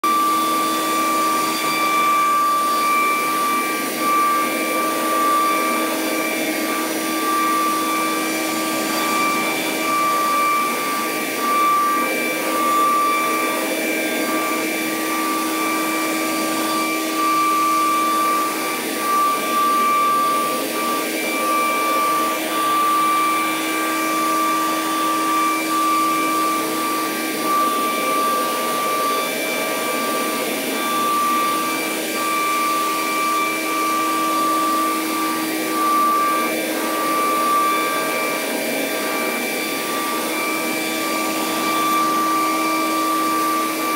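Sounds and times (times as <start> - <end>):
router spindle whining: 0.0 - 43.9.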